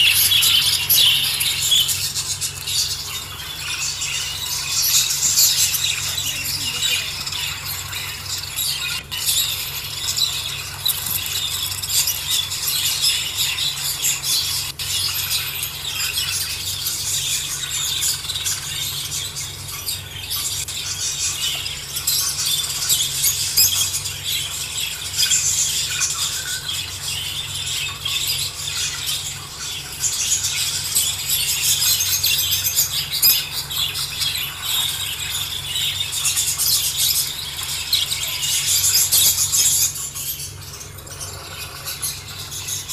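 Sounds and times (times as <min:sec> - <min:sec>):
birds chirping and chattering: 0:00.0 - 0:42.9.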